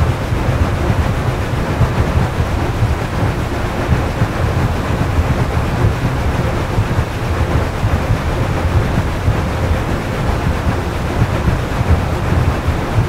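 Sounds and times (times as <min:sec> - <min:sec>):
train rumbling along the track: 0:00.0 - 0:13.0
wind buffeting the microphone: 0:00.0 - 0:13.0.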